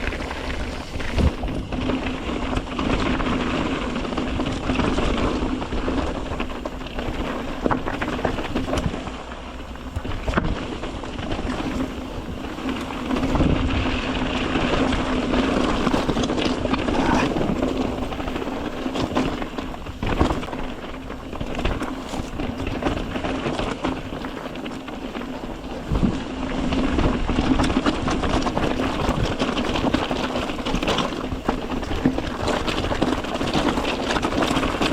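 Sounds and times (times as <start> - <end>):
bike rattling over bumps: 0.0 - 34.9
tyres crunching on gravel: 0.0 - 34.9
wind buffeting microphone: 0.0 - 34.9.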